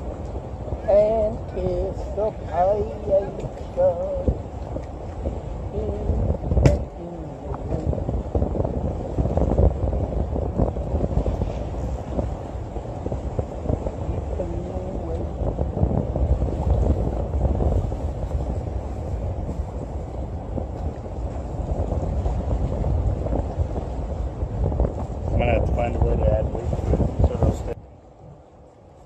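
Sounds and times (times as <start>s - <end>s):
wind rumble on microphone: 0.0s - 29.0s.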